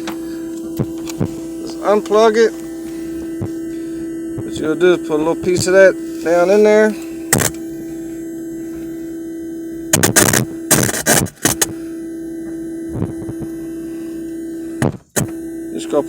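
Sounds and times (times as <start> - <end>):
speakers buzzing hum: 0.0 - 16.0.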